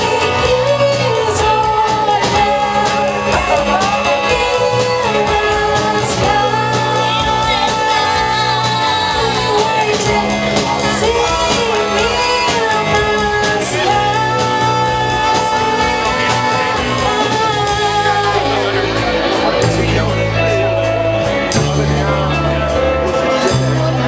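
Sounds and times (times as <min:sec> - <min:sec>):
live band playing: 0:00.0 - 0:24.0
person singing: 0:00.0 - 0:24.0.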